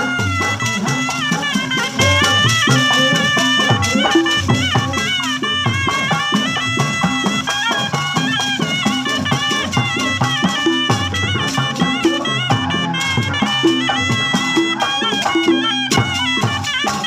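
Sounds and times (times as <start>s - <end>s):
drums beating a fast pattern: 0.0s - 17.0s
shawm playing a reedy melody: 0.0s - 17.0s.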